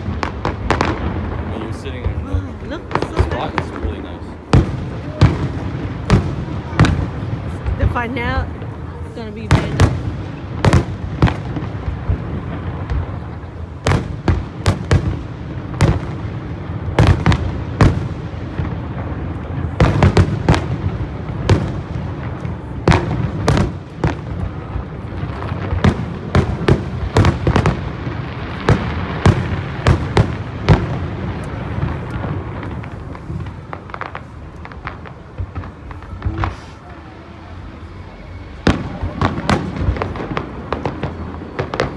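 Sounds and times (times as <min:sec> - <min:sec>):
fireworks bursting: 0:00.0 - 0:41.9.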